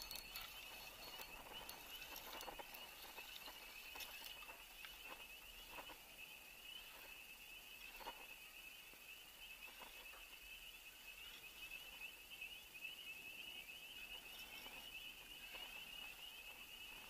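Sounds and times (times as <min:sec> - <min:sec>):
distant calling animals: 0:00.0 - 0:17.0.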